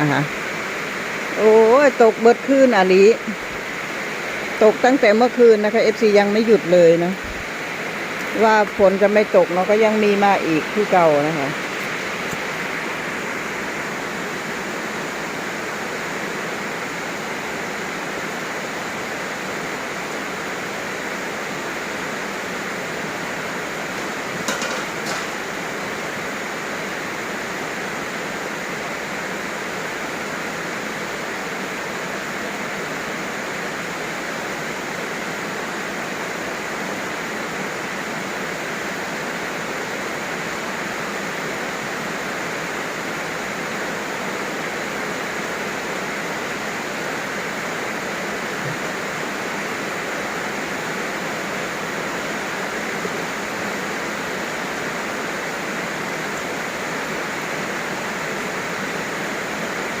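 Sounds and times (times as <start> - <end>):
heavy rain falling: 0.0 - 60.0.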